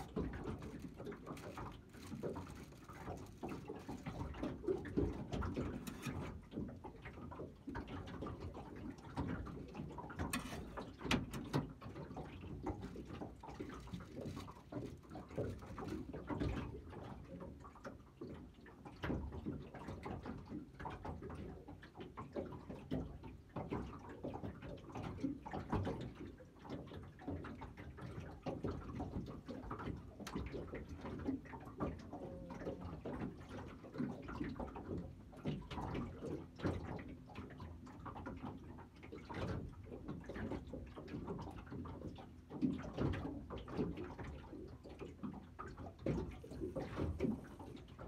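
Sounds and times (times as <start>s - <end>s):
knocks and splashes: 0.0s - 48.0s
small waves lapping against boat hull: 0.0s - 48.0s.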